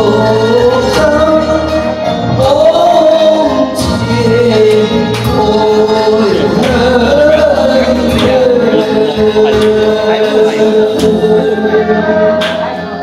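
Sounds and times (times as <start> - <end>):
man singing into a microphone: 0.0 - 13.0
recorded backing track: 0.0 - 13.0.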